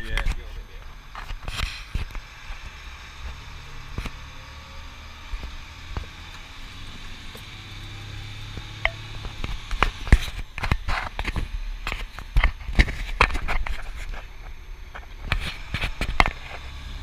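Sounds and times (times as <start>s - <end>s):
vehicle cab road rumble: 0.0s - 17.0s.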